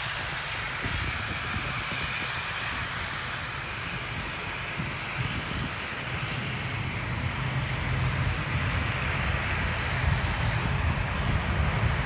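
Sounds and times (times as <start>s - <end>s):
aircraft engines rushing rumble: 0.0s - 12.0s.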